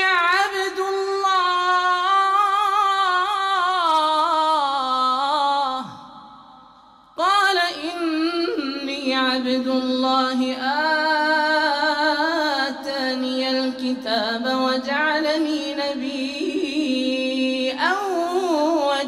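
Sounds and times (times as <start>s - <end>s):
man chanting melodically: 0.0s - 6.1s, 7.2s - 19.0s.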